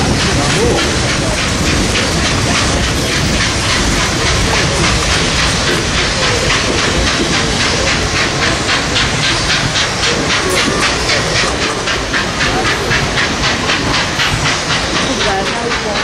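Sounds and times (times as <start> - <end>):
steam hissing: 0.0 - 16.0
steam locomotive exhaust chuffs: 0.0 - 16.0
train cars rumbling on rails: 0.0 - 16.0.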